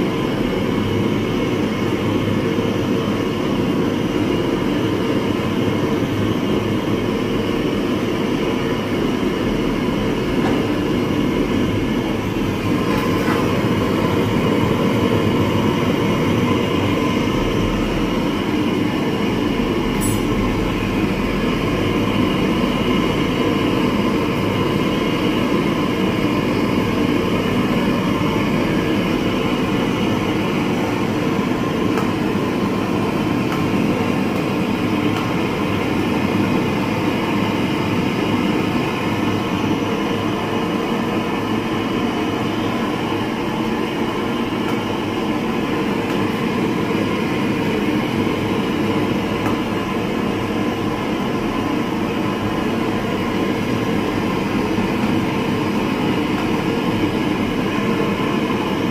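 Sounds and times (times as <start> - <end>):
gas stove burner rushing: 0.0 - 58.9.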